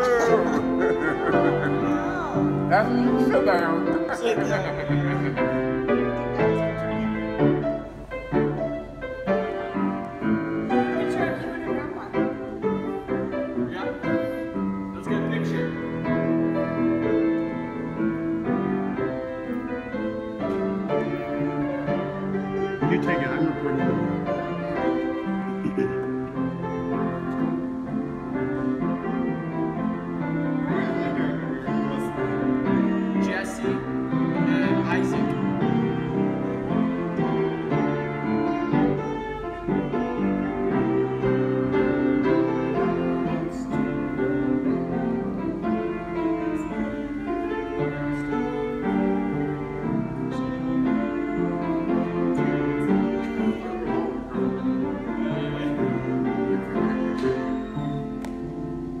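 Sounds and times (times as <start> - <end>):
solo grand piano chords: 0.0 - 59.0.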